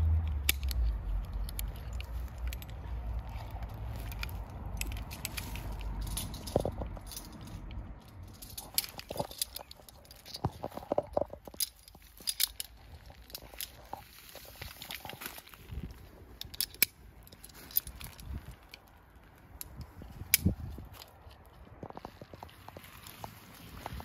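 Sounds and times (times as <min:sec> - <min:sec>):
metal hardware clicking and rattling: 0:00.2 - 0:24.0.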